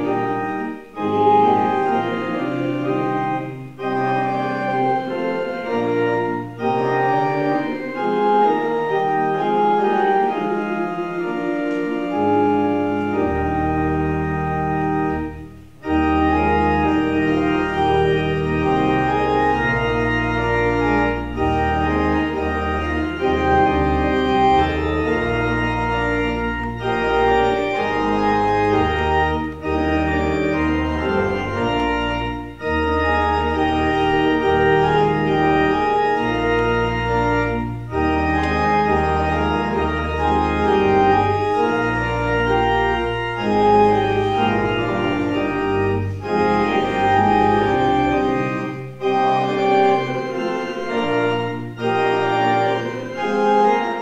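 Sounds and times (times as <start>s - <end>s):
church organ chords: 0.0s - 54.0s
deep organ pedal bass: 0.0s - 54.0s.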